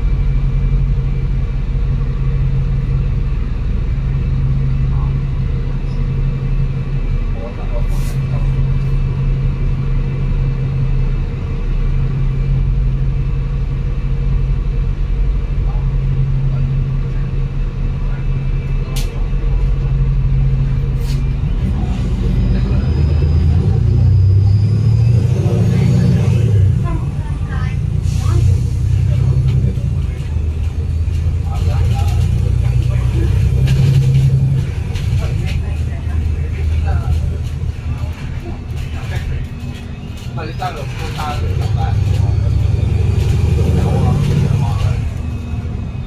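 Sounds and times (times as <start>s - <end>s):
bus diesel engine drone: 0.0s - 46.0s.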